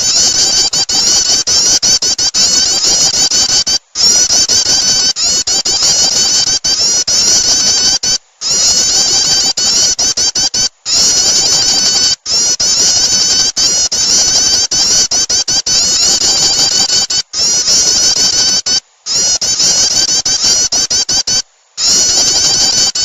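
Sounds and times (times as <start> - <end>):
recorded bird calls chirping: 0.0 - 23.0.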